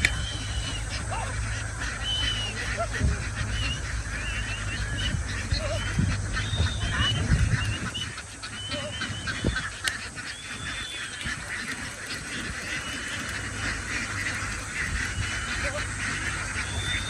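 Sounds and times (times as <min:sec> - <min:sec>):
ducks quacking: 0:00.0 - 0:17.0.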